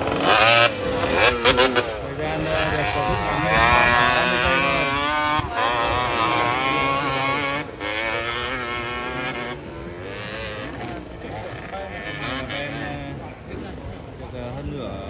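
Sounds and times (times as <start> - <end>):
dirt bike engine revving: 0.0 - 14.2.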